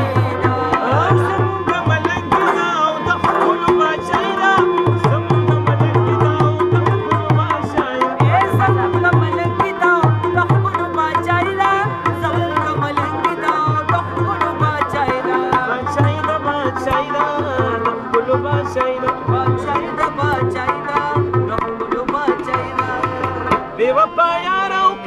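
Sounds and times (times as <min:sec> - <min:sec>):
harmonium and rabab melody: 0:00.0 - 0:25.0
tabla playing: 0:00.0 - 0:25.0.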